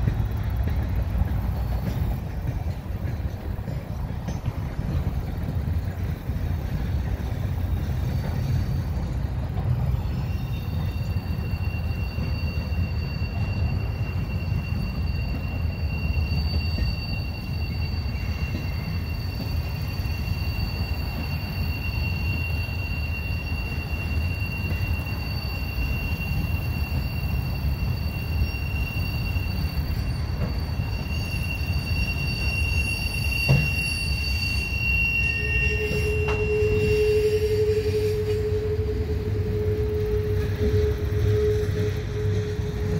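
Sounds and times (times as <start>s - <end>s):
railroad cars rumbling: 0.0s - 42.9s
high-pitched wheel squeal: 1.8s - 42.9s.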